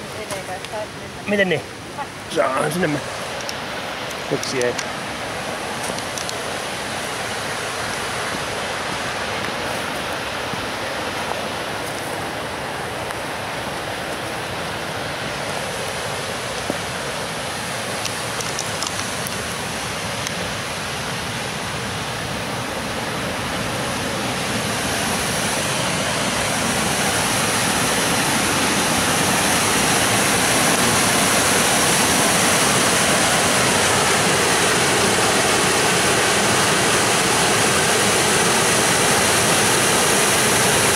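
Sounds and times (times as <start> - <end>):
river rapids roaring: 0.0 - 40.9.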